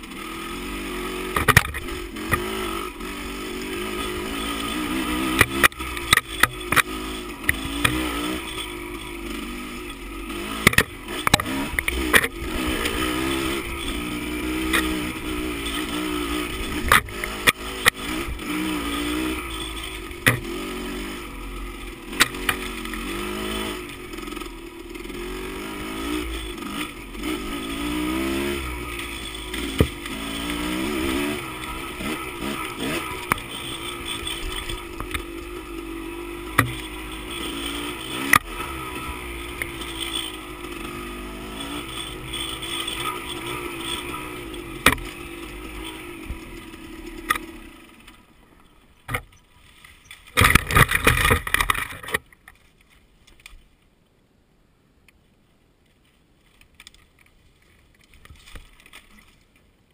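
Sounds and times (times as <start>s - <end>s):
dirt bike engine revving: 0.0s - 48.4s.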